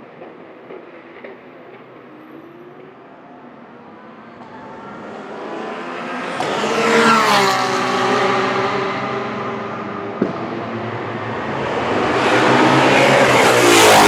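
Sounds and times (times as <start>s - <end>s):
race car engine passing: 1.8s - 14.0s.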